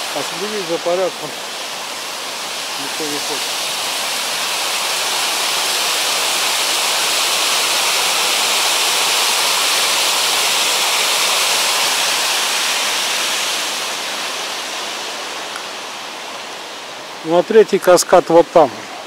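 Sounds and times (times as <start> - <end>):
water rushing over waterfall step: 0.0 - 19.0.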